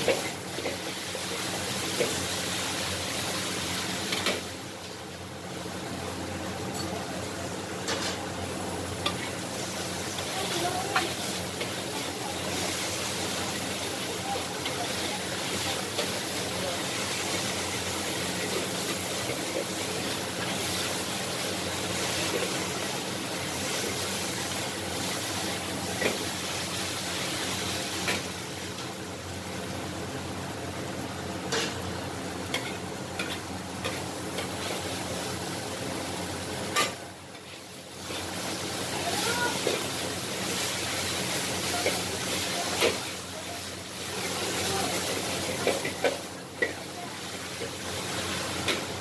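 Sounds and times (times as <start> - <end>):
noodles sizzling in a wok: 0.0 - 49.0.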